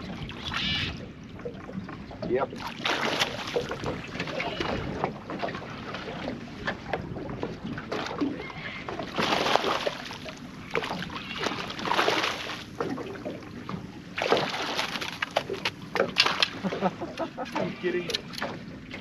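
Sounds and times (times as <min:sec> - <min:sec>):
water splashing against boat: 0:00.0 - 0:19.0.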